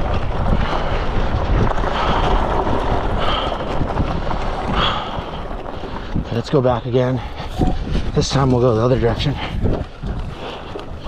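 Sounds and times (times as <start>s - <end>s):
electric dirt bike rumble: 0.0s - 9.0s, 9.6s - 11.0s
wind buffeting microphone: 0.0s - 11.0s.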